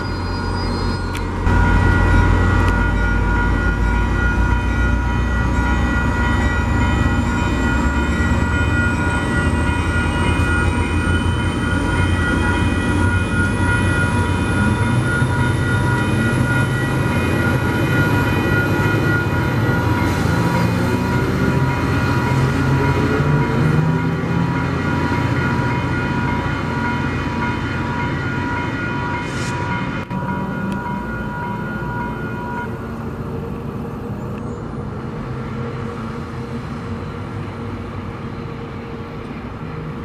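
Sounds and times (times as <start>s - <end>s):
train rumbling past on rails: 0.0s - 40.0s.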